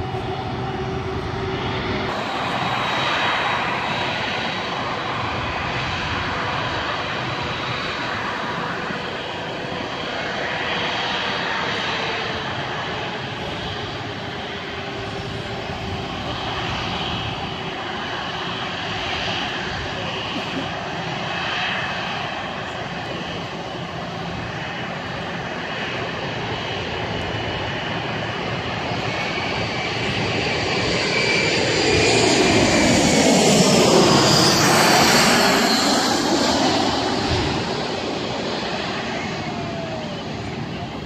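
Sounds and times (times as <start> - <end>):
jet engines at taxi power: 0.0 - 41.0.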